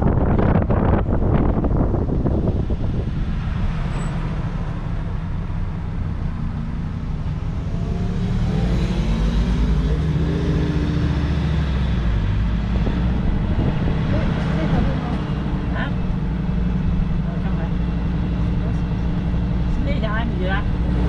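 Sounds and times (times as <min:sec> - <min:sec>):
motorhome engine and road noise: 0:00.0 - 0:21.0.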